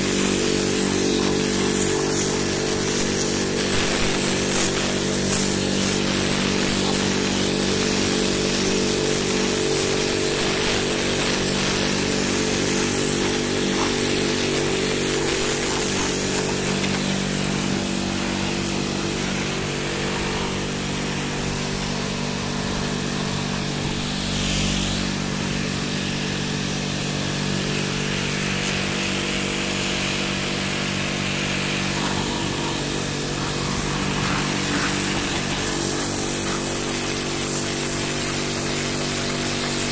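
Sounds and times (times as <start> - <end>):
pressure washer motor hum: 0.0 - 39.9
water jet hissing on tiles: 0.0 - 39.9.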